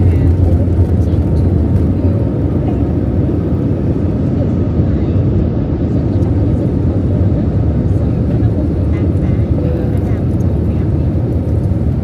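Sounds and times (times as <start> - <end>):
jet engines roaring: 0.0 - 12.0
wheels rumbling on runway: 0.0 - 12.0.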